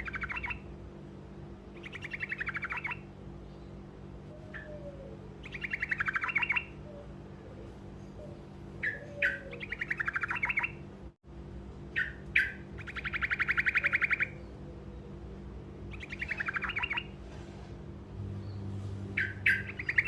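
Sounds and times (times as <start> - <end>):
songbird singing rolling trill: 0.0 - 0.8, 1.7 - 10.9, 11.9 - 17.2, 18.3 - 20.0
low steady hum: 0.0 - 20.0.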